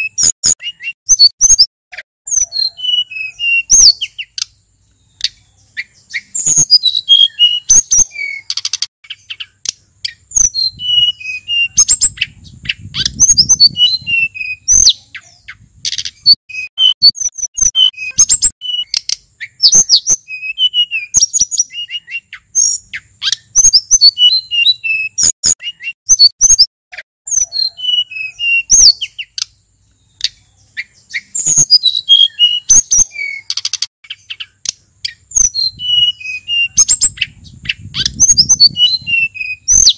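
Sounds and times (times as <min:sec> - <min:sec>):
songbird whistling and chipping: 0:00.0 - 0:39.9.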